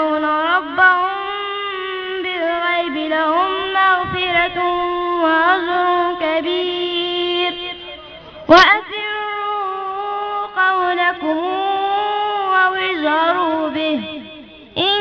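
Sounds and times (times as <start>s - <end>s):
person chanting recitation: 0.0s - 15.0s.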